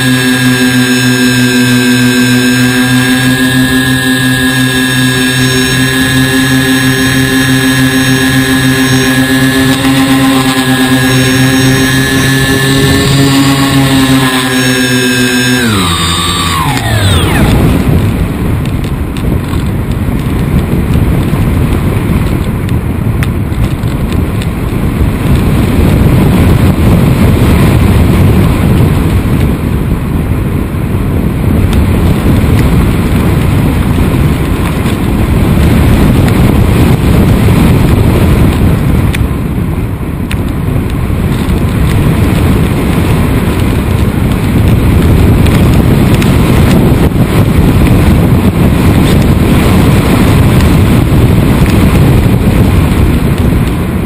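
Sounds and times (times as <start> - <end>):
propeller motor drone: 0.0 - 54.0
wind rushing over microphone: 0.0 - 54.0.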